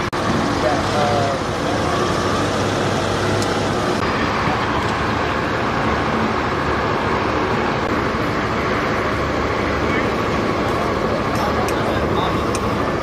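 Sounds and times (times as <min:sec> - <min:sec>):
heavy vehicle engines running: 0:00.0 - 0:13.0.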